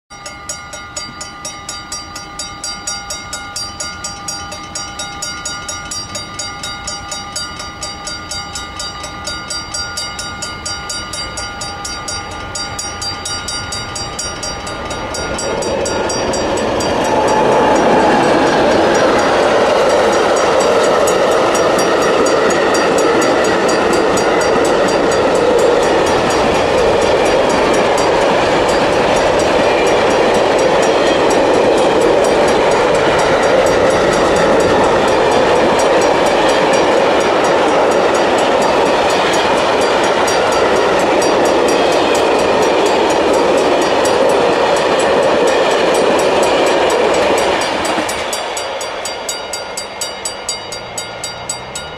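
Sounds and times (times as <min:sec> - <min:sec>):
freight train rumbling past: 0:00.1 - 0:51.9
level crossing bell ringing: 0:00.1 - 0:51.9.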